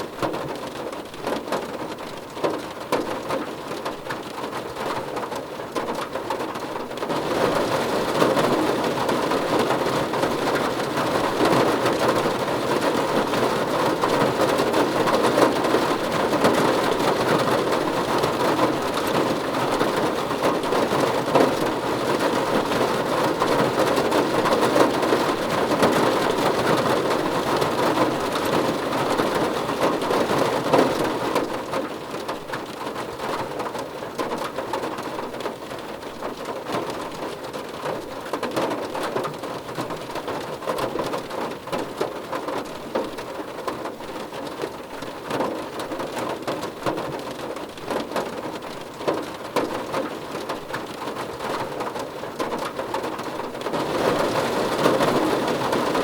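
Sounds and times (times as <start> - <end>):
rain drumming on a car roof: 0.0 - 56.0.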